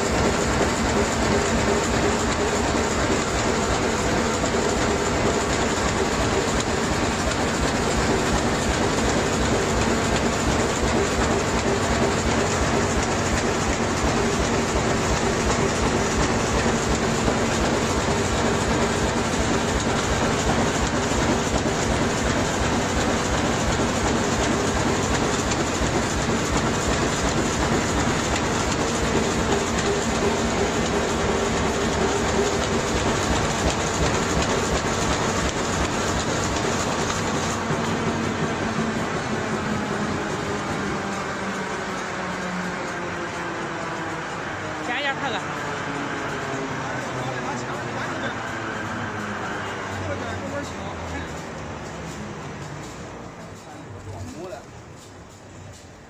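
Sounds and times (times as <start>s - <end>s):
fast mechanical clatter: 0.0s - 44.1s, 44.8s - 56.0s.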